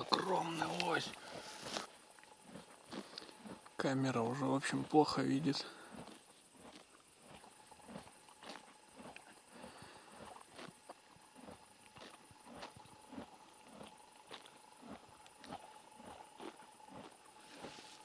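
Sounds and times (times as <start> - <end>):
horse shifting and chewing: 0.0 - 18.0.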